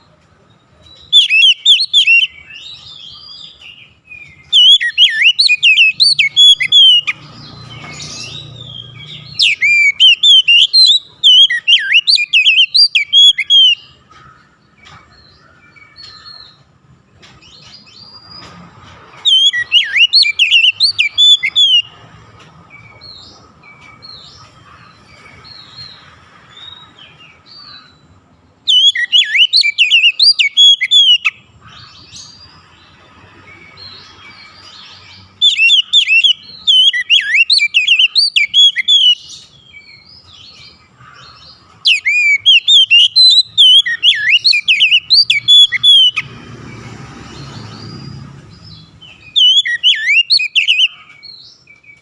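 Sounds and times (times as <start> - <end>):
bird singing whistled notes: 0.7 - 14.0, 19.2 - 22.0, 25.2 - 32.5, 33.7 - 52.0.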